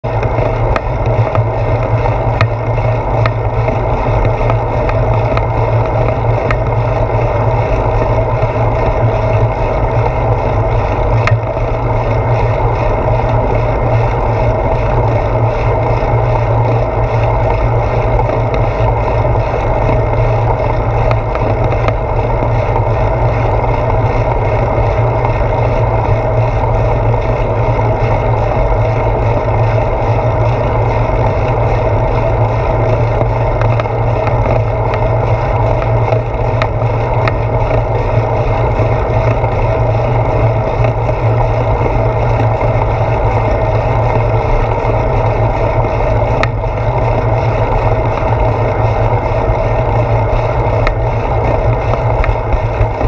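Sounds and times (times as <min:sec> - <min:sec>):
tyre and road noise: 0:00.0 - 0:53.0.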